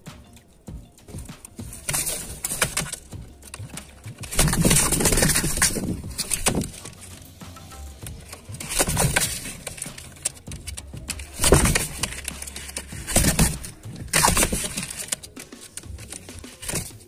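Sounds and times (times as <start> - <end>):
pigeon flapping in a box: 1.0 - 7.3, 8.1 - 17.0.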